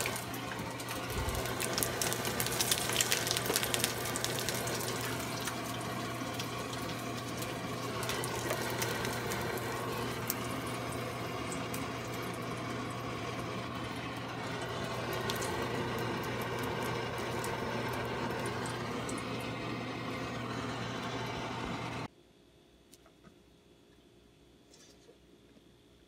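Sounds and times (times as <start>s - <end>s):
low hum: 0.0s - 22.1s
sausages sizzling in oil: 0.0s - 22.1s.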